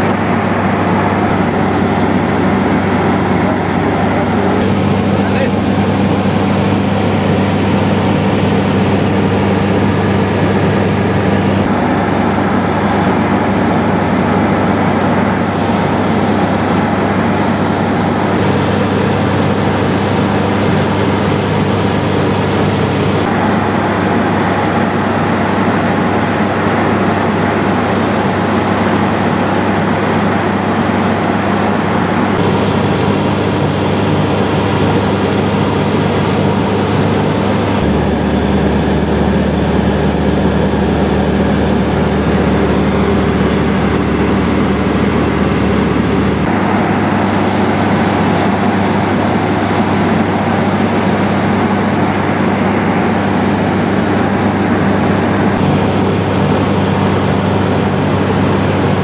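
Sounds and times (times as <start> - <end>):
aircraft engine and propeller droning: 0.0 - 59.0
airflow rushing: 0.0 - 59.0.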